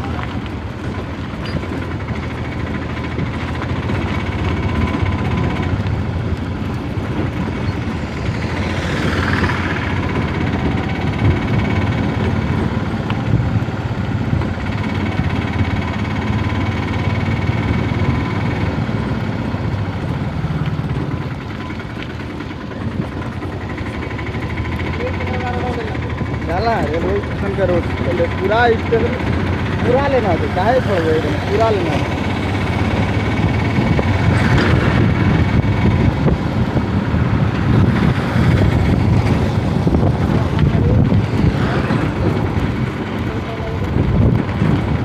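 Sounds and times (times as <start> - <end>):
vehicle engine running: 0.0 - 45.0.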